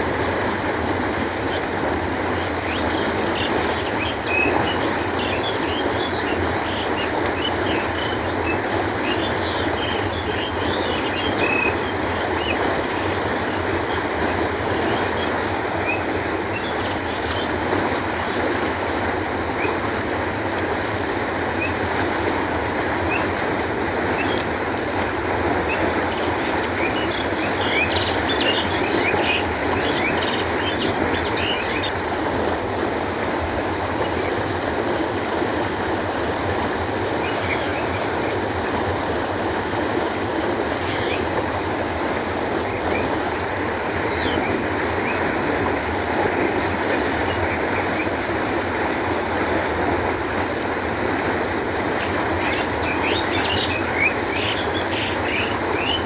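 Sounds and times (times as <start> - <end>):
canal water flowing: 0.0 - 56.0.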